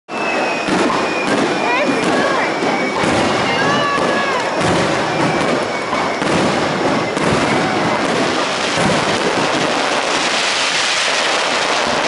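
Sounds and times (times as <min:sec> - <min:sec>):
fireworks bangs: 0:00.1 - 0:12.0
fireworks crackling: 0:00.1 - 0:12.0.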